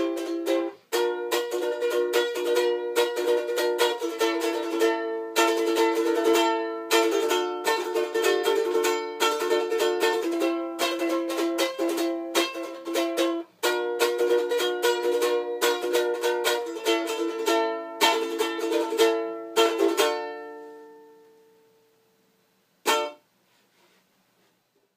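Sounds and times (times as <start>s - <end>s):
ukulele strumming: 0.0s - 21.9s, 22.8s - 23.2s.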